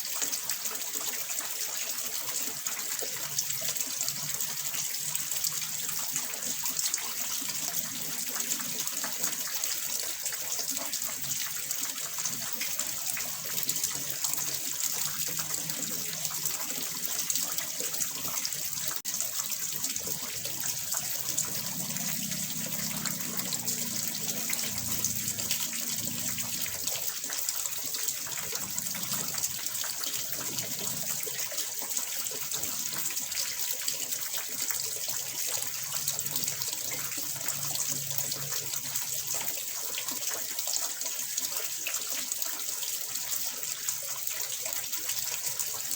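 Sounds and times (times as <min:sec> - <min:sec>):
pond water splashing and trickling: 0:00.0 - 0:45.9.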